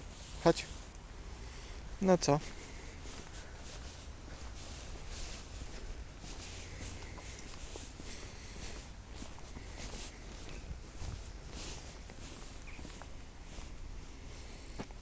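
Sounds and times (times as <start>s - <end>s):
footsteps rustling through grass: 0.0s - 15.0s.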